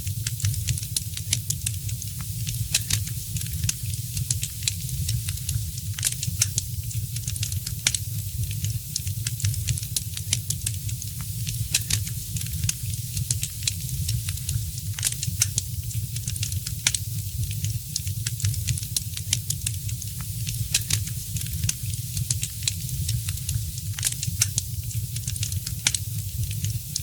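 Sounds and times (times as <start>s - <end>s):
wood fire crackling: 0.2s - 27.0s.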